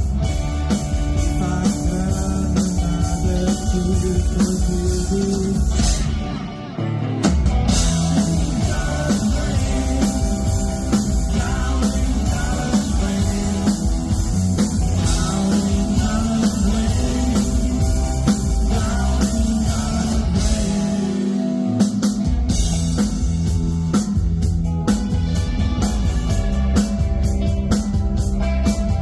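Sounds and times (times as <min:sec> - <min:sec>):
drum kit beat: 0:00.0 - 0:06.6, 0:07.2 - 0:29.0
bass guitar: 0:00.0 - 0:29.0
electric guitars: 0:00.0 - 0:29.0.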